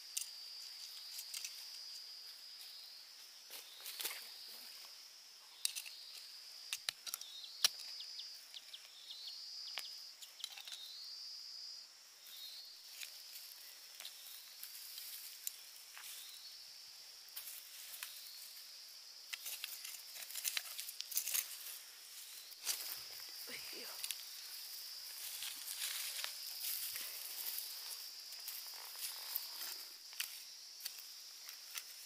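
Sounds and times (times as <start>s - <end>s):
insects chirping: 0.0s - 32.0s.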